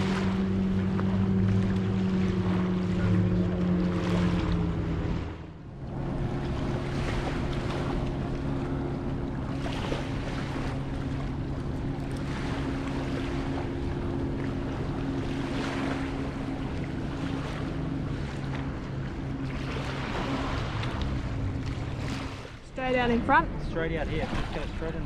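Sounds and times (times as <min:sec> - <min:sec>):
boat engine running: 0:00.0 - 0:25.0
small waves washing: 0:00.0 - 0:25.0.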